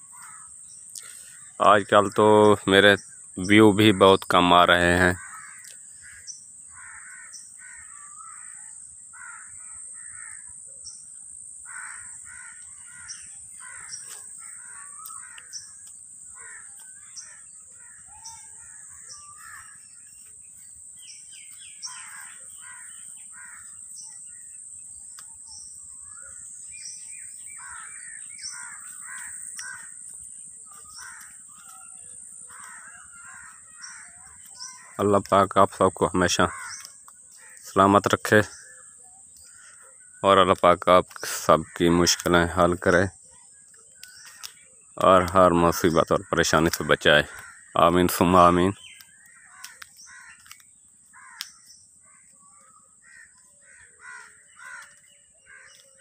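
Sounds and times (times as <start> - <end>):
crows cawing: 0.0 - 56.0
high-pitched insect drone: 5.2 - 53.0.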